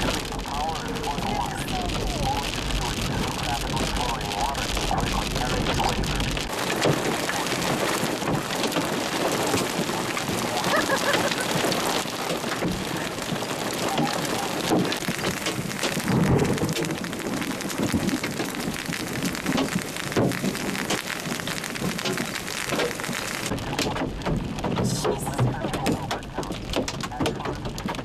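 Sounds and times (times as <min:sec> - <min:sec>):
hailstones striking ground: 0:00.0 - 0:28.0
steady rush of rain: 0:00.0 - 0:28.0.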